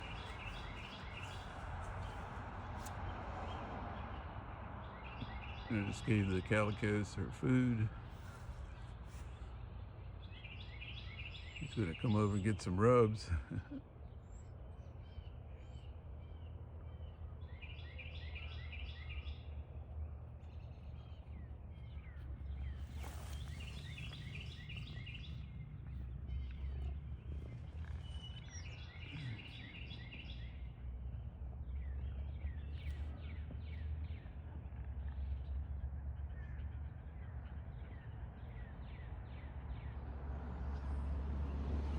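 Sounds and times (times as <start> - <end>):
birds chirping: 0.0 - 40.2.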